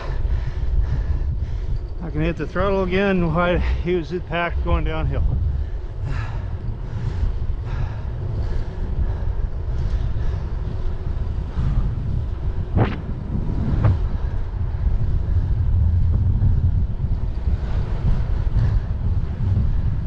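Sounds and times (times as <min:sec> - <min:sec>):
road and tyre noise: 0:00.0 - 0:20.0
wind buffeting microphone: 0:00.0 - 0:20.0.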